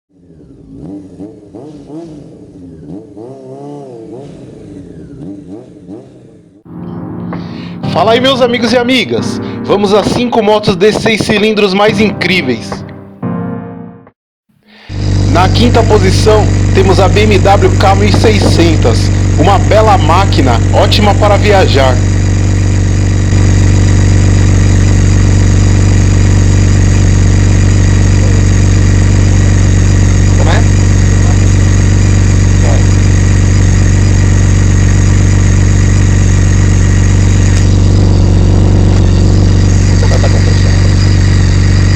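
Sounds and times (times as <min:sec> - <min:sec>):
motorcycle engine revving: 0:00.1 - 0:06.7, 0:14.8 - 0:41.9.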